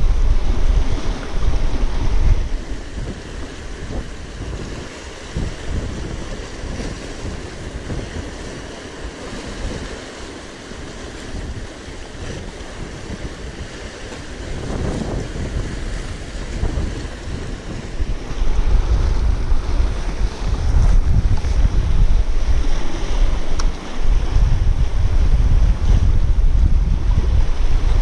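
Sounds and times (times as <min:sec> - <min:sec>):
sea surf: 0:00.0 - 0:28.0
wind buffeting microphone: 0:00.0 - 0:28.0.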